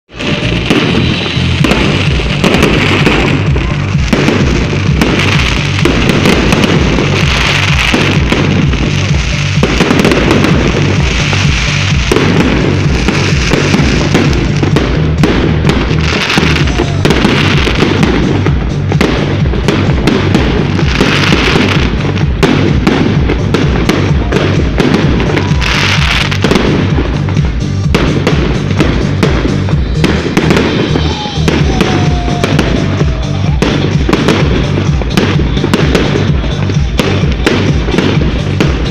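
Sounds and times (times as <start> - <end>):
fireworks banging and crackling: 0.1 - 38.9
music with steady beat: 0.1 - 38.9.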